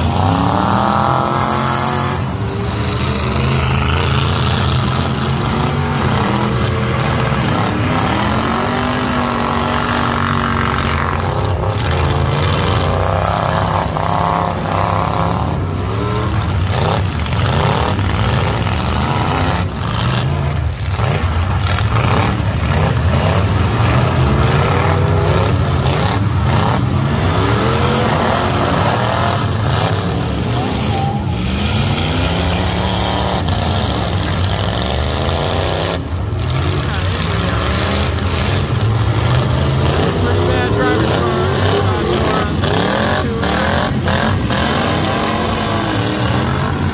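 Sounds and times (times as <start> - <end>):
truck engines revving: 0.0 - 46.9.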